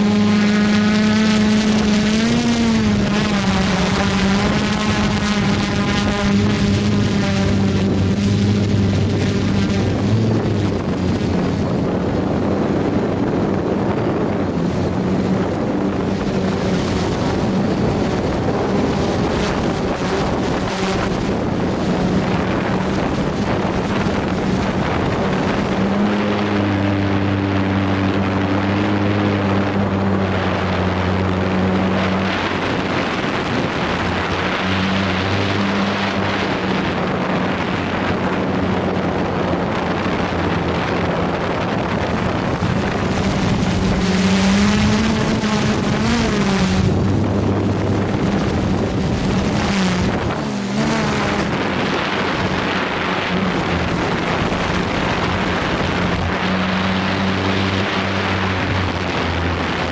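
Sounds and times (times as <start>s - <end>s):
drone propellers whirring: 0.0s - 59.9s
wind rushing over microphone: 0.0s - 59.9s.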